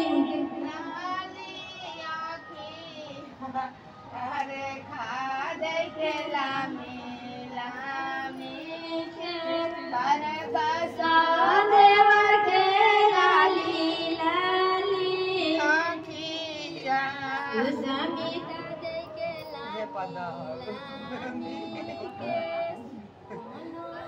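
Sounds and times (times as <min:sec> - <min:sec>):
women singing folk song: 0:00.0 - 0:24.0.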